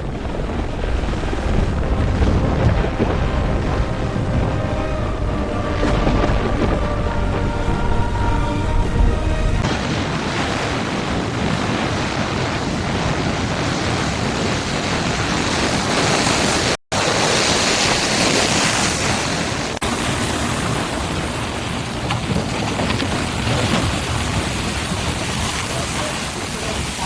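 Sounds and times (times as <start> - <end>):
storm wind: 0.0 - 27.0
surging water: 0.0 - 27.0.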